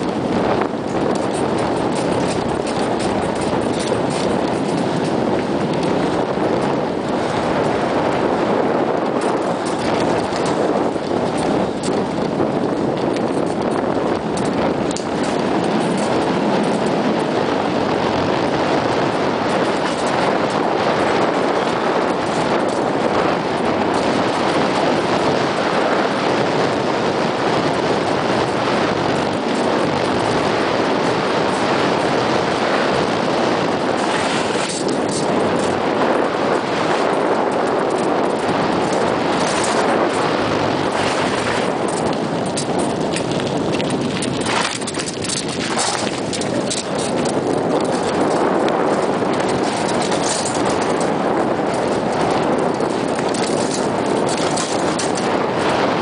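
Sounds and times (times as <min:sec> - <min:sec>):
bicycle tyres crunching on gravel: 0:00.0 - 0:56.0
bike rattling: 0:00.0 - 0:56.0.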